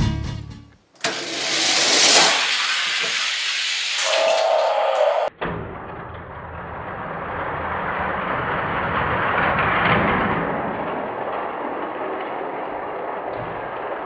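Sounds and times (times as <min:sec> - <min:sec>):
toy cars rolling on plastic track: 0:01.0 - 0:05.3, 0:06.4 - 0:14.0.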